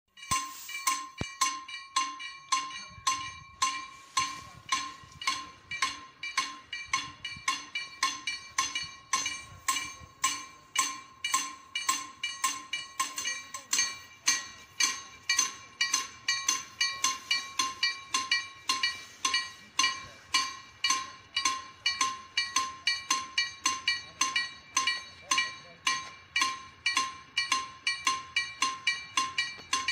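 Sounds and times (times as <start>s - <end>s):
level crossing bell ringing: 0.1s - 29.9s.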